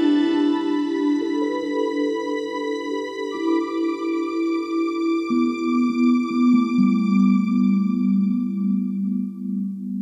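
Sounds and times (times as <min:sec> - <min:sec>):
soft new-age music: 0:00.0 - 0:10.0.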